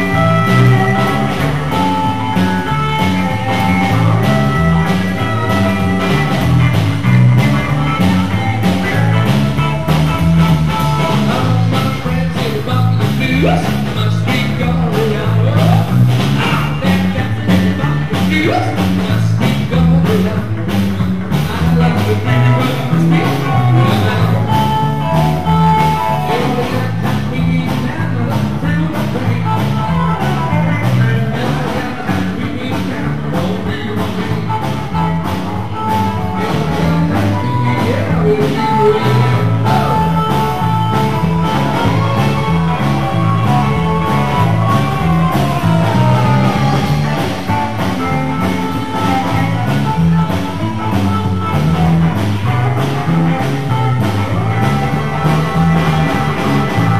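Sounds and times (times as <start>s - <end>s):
electric bass walking line: 0.0s - 56.9s
person singing: 0.0s - 56.9s
rock and roll band playing: 0.0s - 56.9s.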